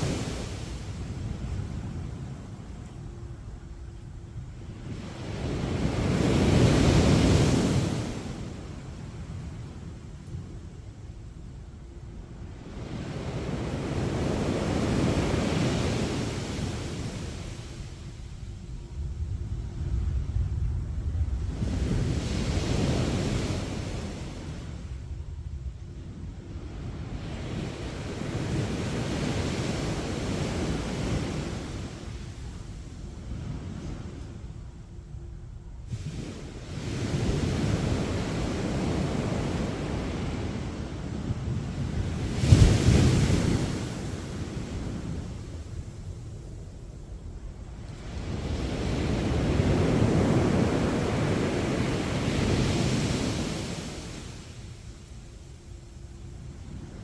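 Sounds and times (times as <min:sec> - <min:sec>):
waves breaking on sandy beach: 0:00.0 - 0:02.9, 0:04.6 - 0:11.2, 0:11.8 - 0:25.1, 0:26.4 - 0:35.0, 0:35.8 - 0:57.0
low rumble of surf: 0:00.0 - 0:57.0
wind on microphone: 0:00.0 - 0:57.0.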